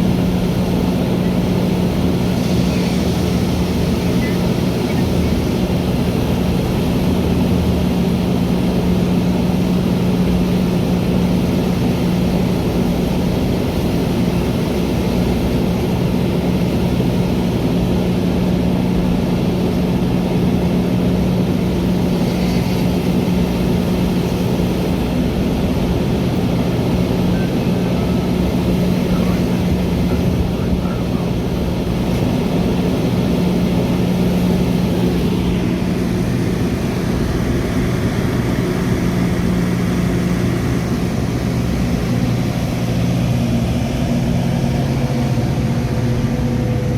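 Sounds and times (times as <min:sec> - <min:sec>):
train droning: 0:00.0 - 0:46.9.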